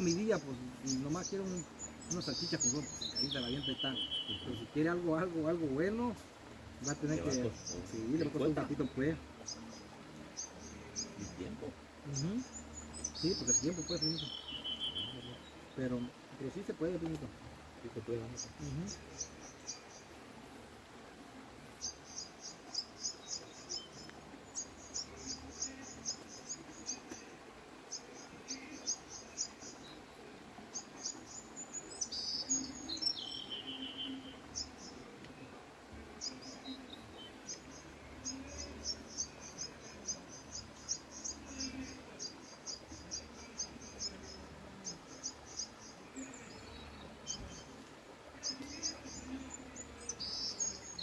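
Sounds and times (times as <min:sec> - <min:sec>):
bird calling: 0:00.0 - 0:20.6, 0:21.6 - 0:51.0.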